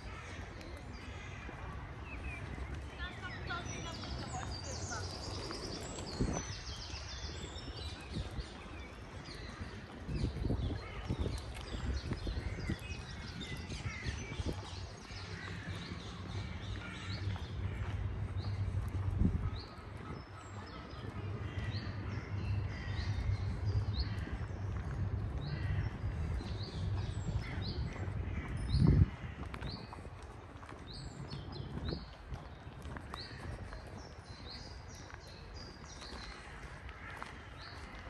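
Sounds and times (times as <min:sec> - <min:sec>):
steady low rumble: 0:00.0 - 0:38.0.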